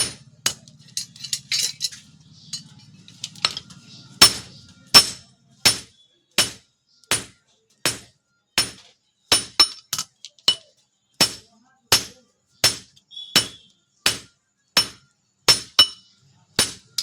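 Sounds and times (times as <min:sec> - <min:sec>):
hammer striking steel on anvil: 0:00.0 - 0:01.6, 0:04.2 - 0:17.0.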